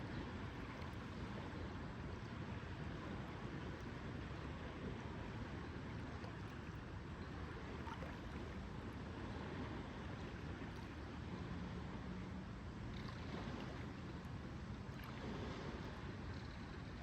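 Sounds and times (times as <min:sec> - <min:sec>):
lake water lapping: 0:00.0 - 0:17.0.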